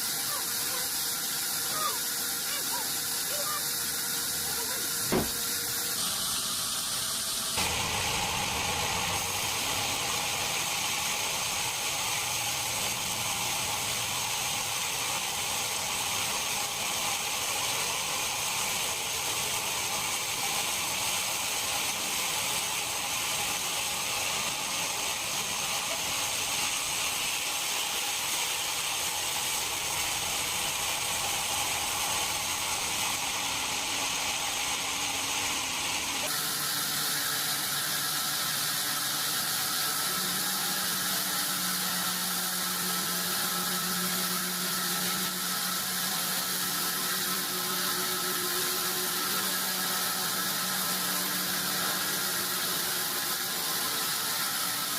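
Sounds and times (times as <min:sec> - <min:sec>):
machinery hiss: 0:00.0 - 0:54.9.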